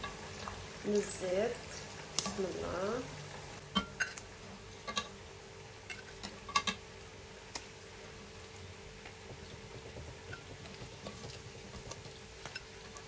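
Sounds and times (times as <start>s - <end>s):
faint steady hum: 0.0s - 13.0s
fish deep-frying in oil: 0.0s - 13.0s.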